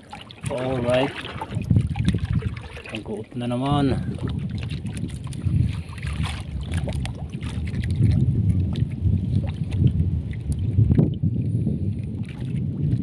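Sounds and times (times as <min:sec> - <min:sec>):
boat low rumble: 0:00.0 - 0:13.0.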